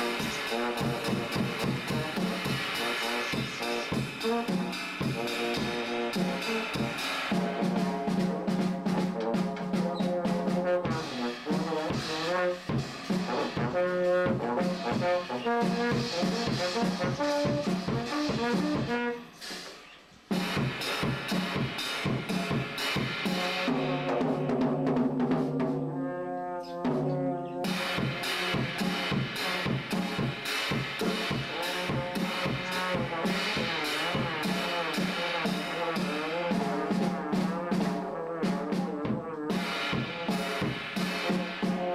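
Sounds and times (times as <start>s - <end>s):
music with brass and drum beat: 0.0s - 41.9s.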